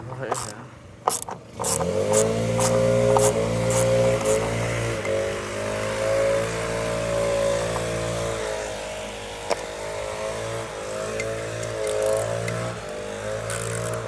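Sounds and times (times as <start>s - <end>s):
leaf blower running: 0.0s - 14.0s.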